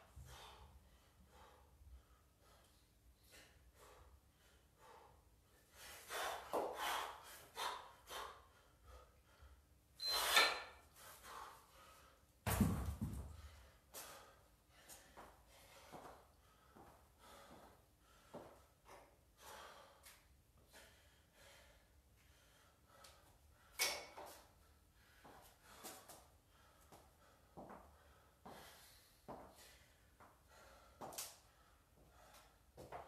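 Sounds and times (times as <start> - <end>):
man breathing hard: 0.0 - 9.9, 10.8 - 12.4, 13.2 - 32.8.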